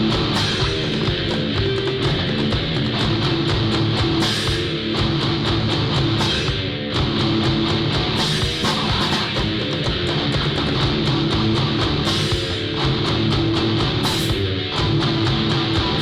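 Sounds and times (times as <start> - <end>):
drum kit beat: 0.0 - 16.0
electric guitars: 0.0 - 16.0.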